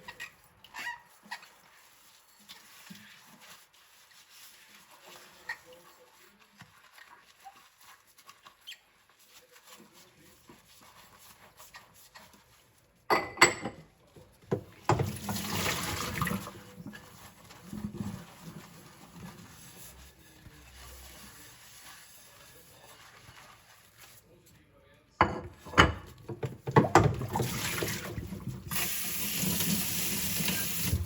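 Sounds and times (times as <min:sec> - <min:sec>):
dishes being scrubbed: 0:00.0 - 0:24.3, 0:25.2 - 0:31.0.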